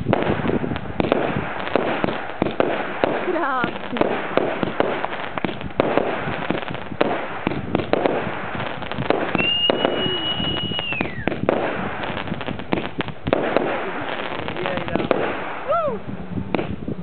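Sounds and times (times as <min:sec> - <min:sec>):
whistling firework: 0:00.0 - 0:16.0
fireworks bangs and crackles: 0:00.0 - 0:17.0.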